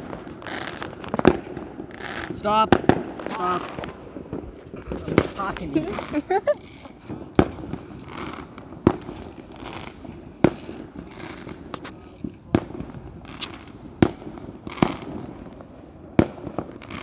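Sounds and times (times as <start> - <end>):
faint fireworks pops: 0.0 - 17.0
fireworks bangs: 0.0 - 17.0.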